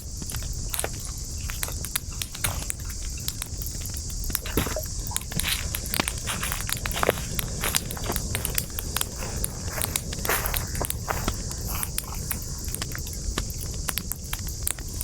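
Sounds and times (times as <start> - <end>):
campfire crackling and popping: 0.0 - 15.0
steady high hiss: 0.0 - 15.0.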